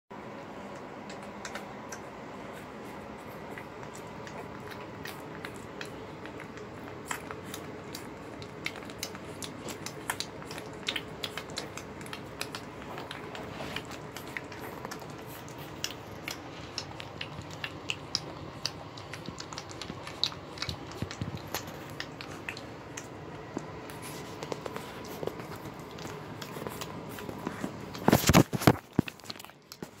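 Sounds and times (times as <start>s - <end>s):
steady background hum: 0.1s - 30.0s
puppies suckling: 0.6s - 30.0s.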